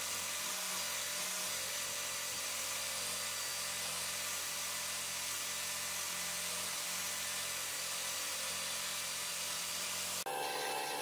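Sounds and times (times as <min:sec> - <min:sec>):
drill wire brush scrubbing metal: 0:00.0 - 0:11.0.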